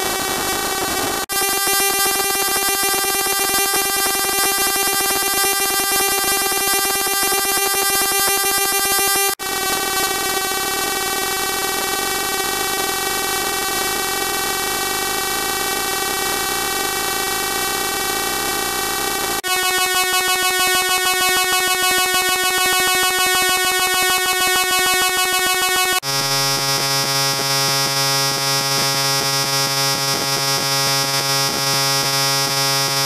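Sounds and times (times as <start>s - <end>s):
harsh electronic buzzing tone: 0.0s - 33.0s.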